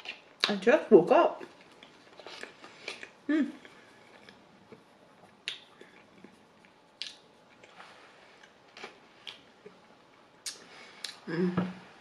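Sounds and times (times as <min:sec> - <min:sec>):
soft chewing: 0:01.4 - 0:11.3.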